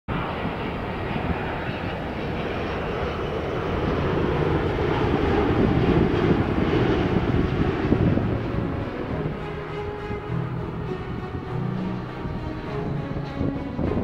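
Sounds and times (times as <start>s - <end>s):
airliner engine rumble: 0.1s - 14.0s.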